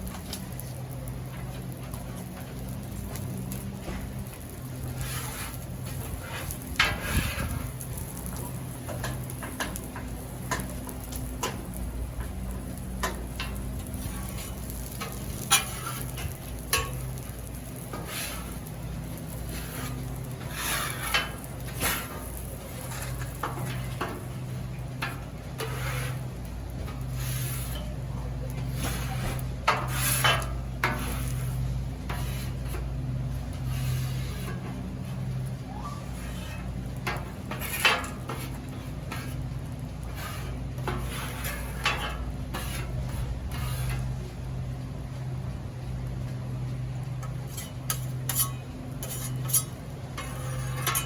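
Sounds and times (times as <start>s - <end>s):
steady sizzle: 0.0s - 51.0s
metal spatula scraping griddle: 4.0s - 35.4s, 36.0s - 44.3s, 47.2s - 51.0s.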